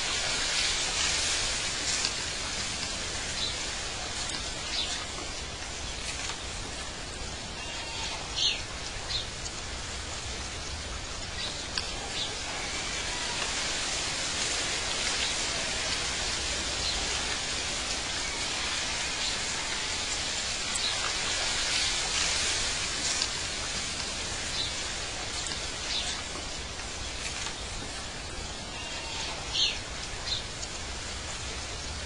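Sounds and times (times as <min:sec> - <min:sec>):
steady rushing hiss: 0:00.0 - 0:32.0.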